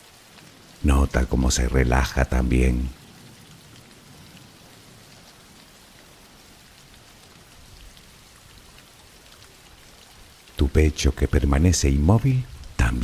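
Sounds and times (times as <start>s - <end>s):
soft rain falling: 0.0s - 13.0s.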